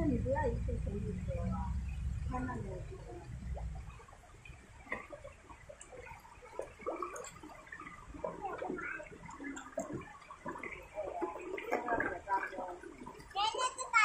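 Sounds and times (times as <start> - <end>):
fish splashing at water surface: 0.0 - 14.0.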